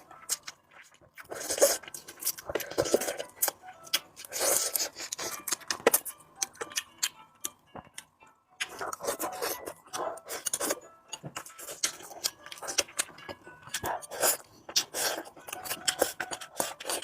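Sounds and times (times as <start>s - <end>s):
sticky crackly chewing: 0.0s - 17.0s.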